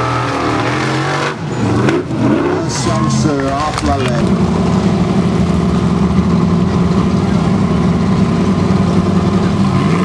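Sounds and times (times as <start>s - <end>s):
buggy engine running loud: 0.0s - 10.0s.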